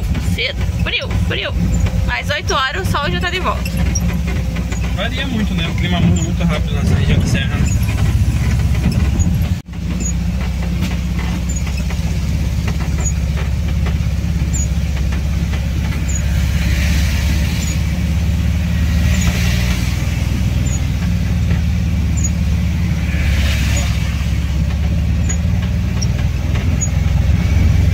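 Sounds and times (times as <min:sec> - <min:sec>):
car engine running: 0:00.0 - 0:27.9.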